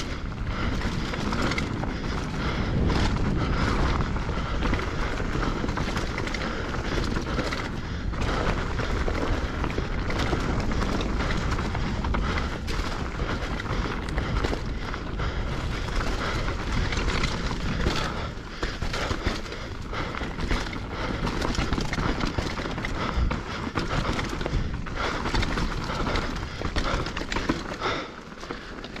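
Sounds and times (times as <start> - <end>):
wind rumble on microphone: 0.0 - 28.0
bike rattling over bumps: 0.0 - 29.0.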